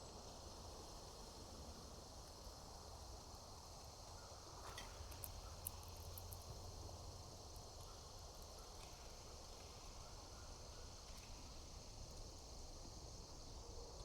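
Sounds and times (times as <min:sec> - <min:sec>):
faint insect chorus: 0:00.0 - 0:14.0.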